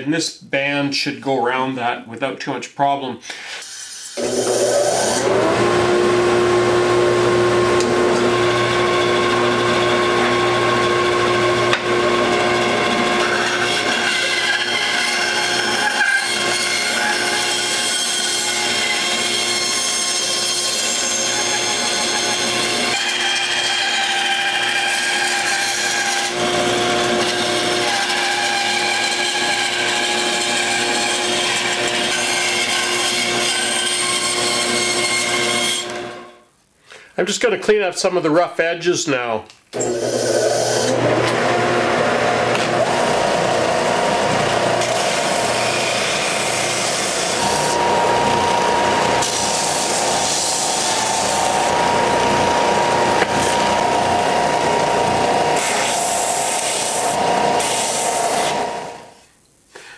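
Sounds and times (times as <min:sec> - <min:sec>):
bandsaw running: 0:03.3 - 0:36.1, 0:39.8 - 0:59.2.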